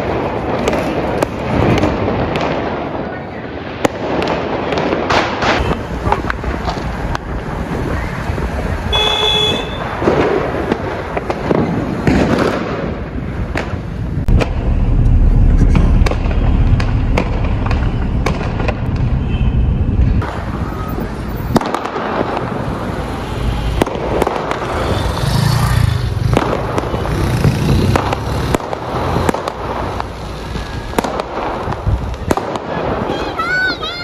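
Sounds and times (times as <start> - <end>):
firecrackers crackling: 0.0 - 34.0
fireworks bangs and pops: 0.0 - 34.0.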